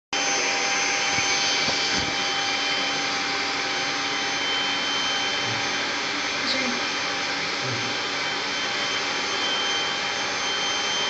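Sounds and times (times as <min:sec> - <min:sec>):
vacuum cleaner running: 0:00.2 - 0:11.0.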